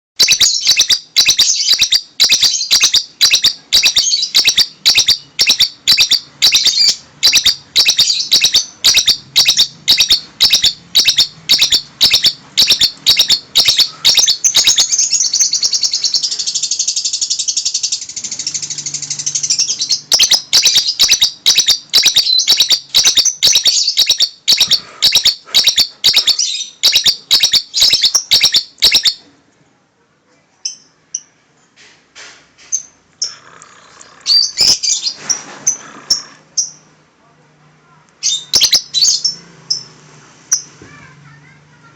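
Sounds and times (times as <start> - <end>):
lovebird chirping and trilling: 0.2 - 29.2, 34.2 - 36.9, 38.2 - 40.7.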